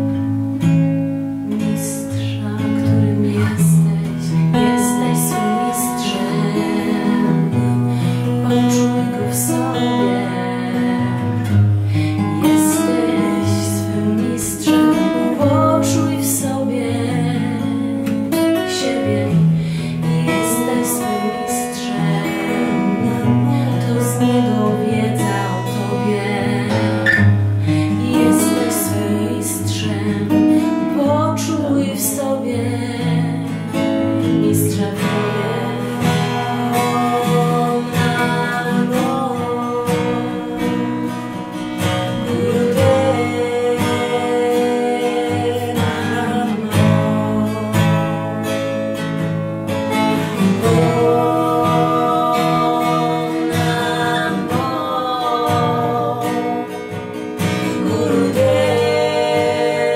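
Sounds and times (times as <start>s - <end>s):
acoustic guitar strummed: 0.0s - 59.9s
women singing a chant: 1.5s - 48.2s, 50.2s - 56.8s, 57.5s - 59.9s.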